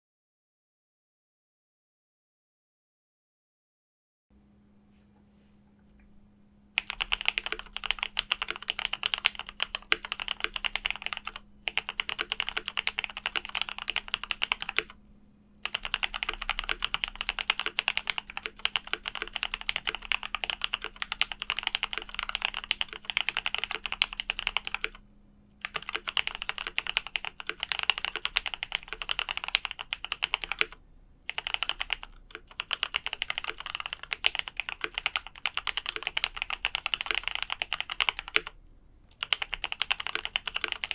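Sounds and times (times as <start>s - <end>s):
fast typing on mechanical keyboard: 6.8s - 15.0s, 15.6s - 25.0s, 25.6s - 40.9s.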